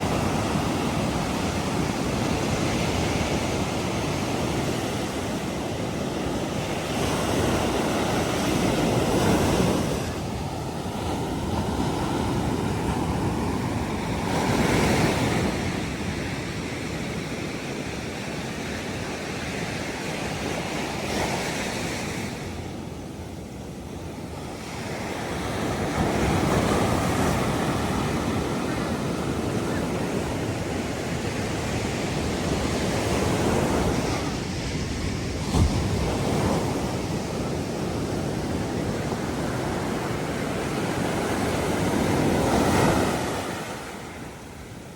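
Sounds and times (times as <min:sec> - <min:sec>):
waves breaking: 0:00.0 - 0:44.9.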